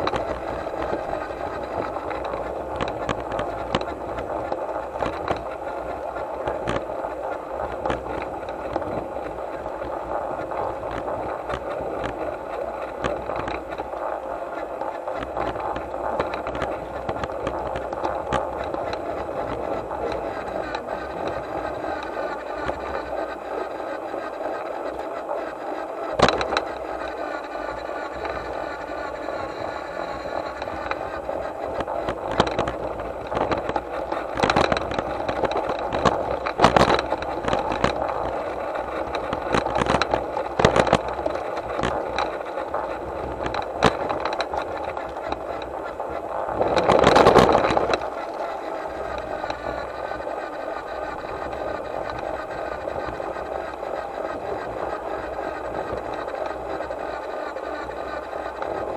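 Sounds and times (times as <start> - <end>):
clicks and knocks on track: 0.0 - 58.9
model locomotive whine: 0.0 - 58.9.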